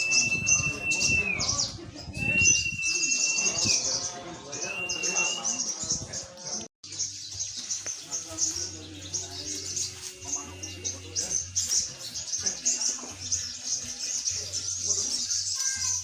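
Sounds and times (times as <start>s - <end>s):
songbirds chirping and trilling: 0.0s - 16.0s.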